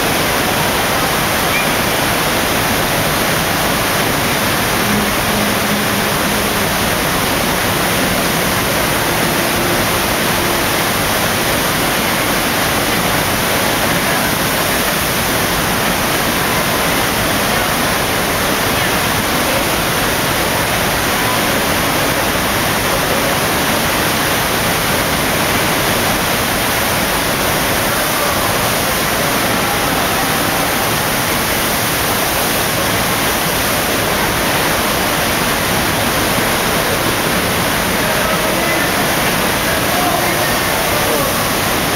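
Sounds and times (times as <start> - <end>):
rushing pumped water: 0.0 - 41.9.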